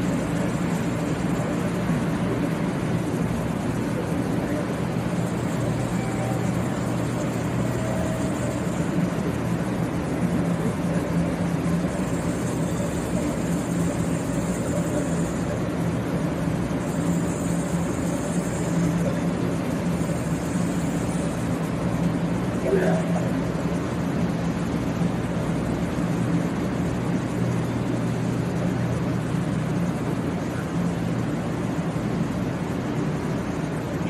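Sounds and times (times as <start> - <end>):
train equipment humming and hissing: 0.0 - 34.0.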